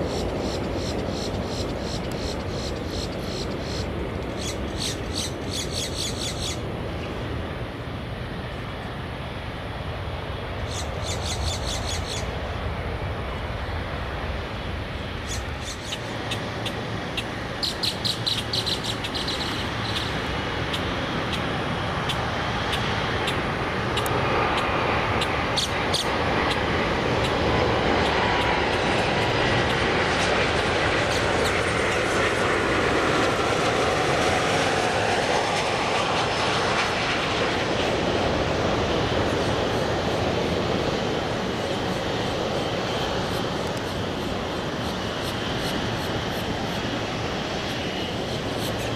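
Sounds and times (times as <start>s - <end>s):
faint jet engine whine: 0.0s - 48.9s
jet airliner rushing noise: 0.0s - 48.9s.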